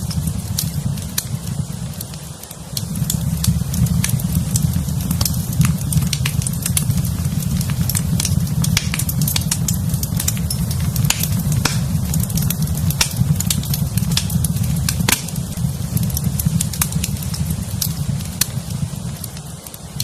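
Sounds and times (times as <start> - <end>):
low rumble of burning: 0.0 - 20.0
wood fire crackling and popping: 0.0 - 20.0.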